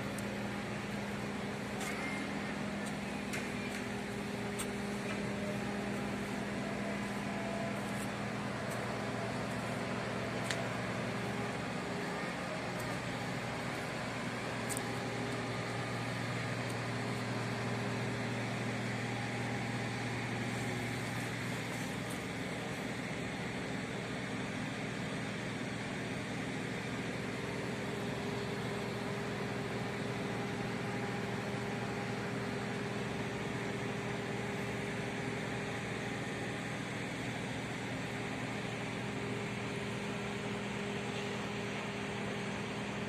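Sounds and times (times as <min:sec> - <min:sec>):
construction machinery engines droning: 0:00.0 - 0:43.0.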